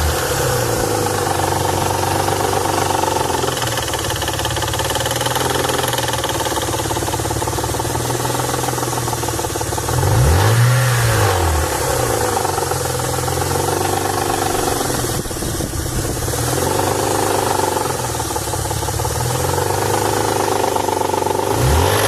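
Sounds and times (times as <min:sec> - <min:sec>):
engine revving: 0:00.0 - 0:06.4, 0:09.8 - 0:22.0
car engine idling: 0:00.0 - 0:22.0.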